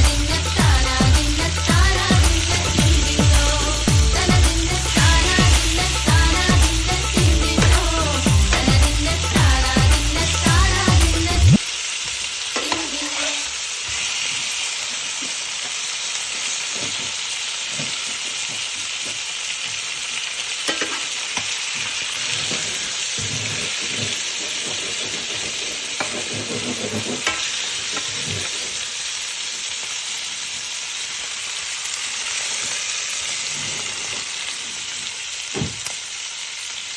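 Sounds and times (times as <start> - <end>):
fish sizzling in hot oil: 0.0 - 36.9.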